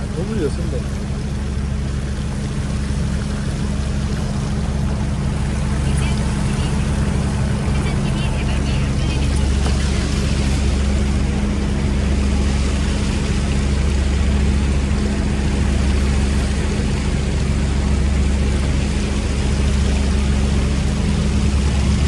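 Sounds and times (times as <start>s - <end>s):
boat engine humming: 0.0s - 22.0s
water and wind noise: 0.0s - 22.0s.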